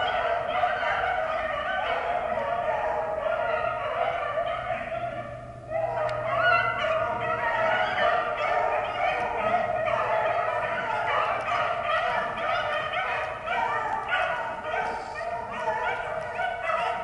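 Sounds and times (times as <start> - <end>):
dogs baying in chorus: 0.0 - 17.0.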